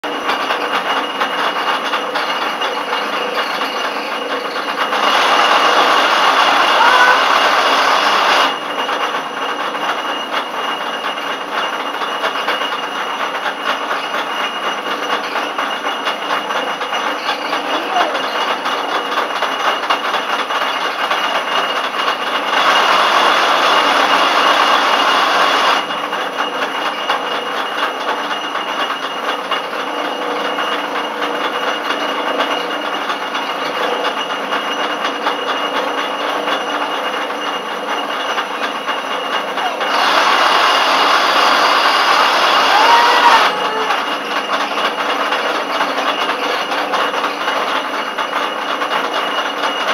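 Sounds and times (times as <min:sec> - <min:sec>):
lathe cutting a thread: 0:00.0 - 0:49.9.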